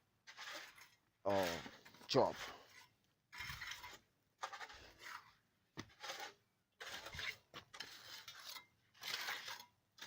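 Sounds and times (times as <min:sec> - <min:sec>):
hand tool scraping floor: 0:00.2 - 0:10.0.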